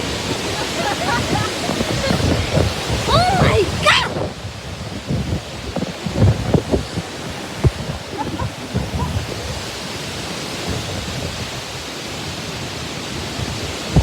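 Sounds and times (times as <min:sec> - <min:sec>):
strong wind rushing: 0:00.0 - 0:14.0
wind gusts buffeting microphone: 0:00.0 - 0:14.0.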